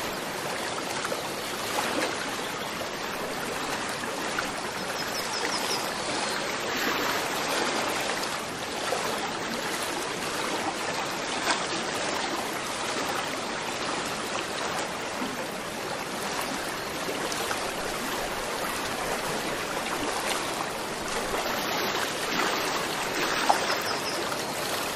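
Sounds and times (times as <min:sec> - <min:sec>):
aquarium water rushing and trickling: 0:00.0 - 0:24.9
small water splashes: 0:00.0 - 0:24.9.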